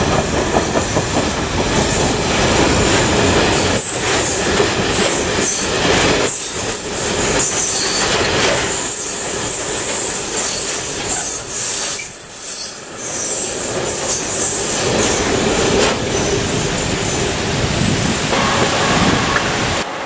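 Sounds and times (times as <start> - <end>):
train wheels clattering on rails: 0.0 - 19.9.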